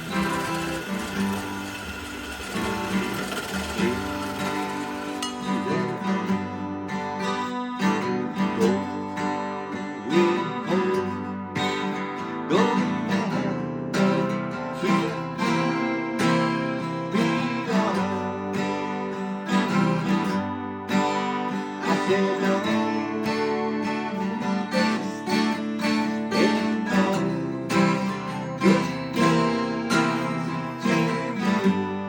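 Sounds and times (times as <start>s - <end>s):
person singing: 0.0s - 6.6s, 7.9s - 20.2s, 21.5s - 32.0s
acoustic guitar strumming: 0.0s - 32.0s.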